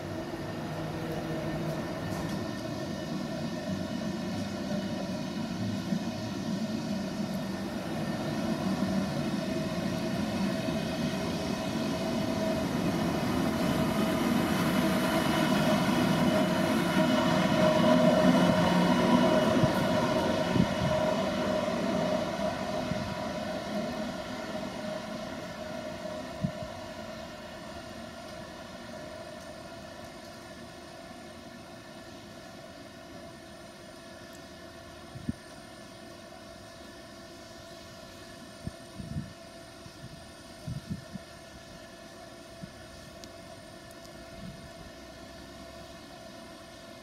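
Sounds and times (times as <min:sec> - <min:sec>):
train electric whine: 0:00.0 - 0:47.0
train wheels rumbling on rails: 0:00.0 - 0:47.0.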